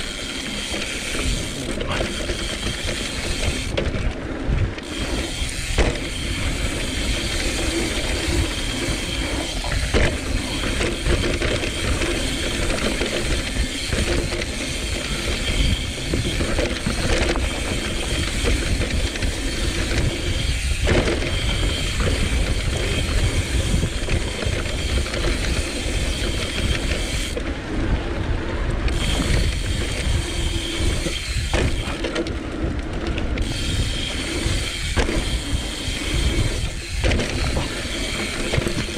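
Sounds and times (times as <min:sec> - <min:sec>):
bicycle freehub buzzing: 0:00.0 - 0:38.9
tyres rumbling on dirt: 0:00.0 - 0:38.9
wind: 0:00.0 - 0:38.9.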